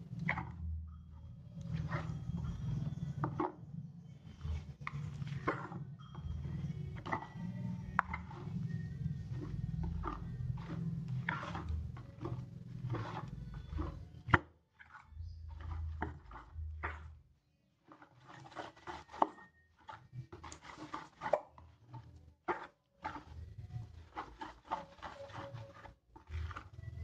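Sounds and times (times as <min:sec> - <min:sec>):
spatula stirring batter: 0:00.0 - 0:27.0.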